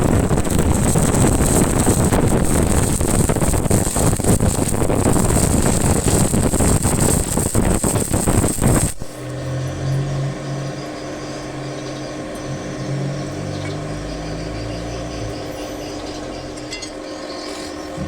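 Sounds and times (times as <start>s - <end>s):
low hum: 0.0s - 18.0s
welding arc crackling: 0.0s - 18.0s.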